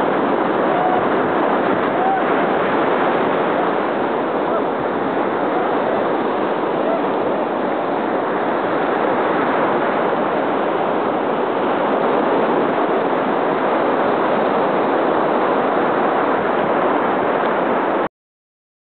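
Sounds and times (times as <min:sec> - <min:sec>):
ocean surf rushing: 0:00.0 - 0:18.1.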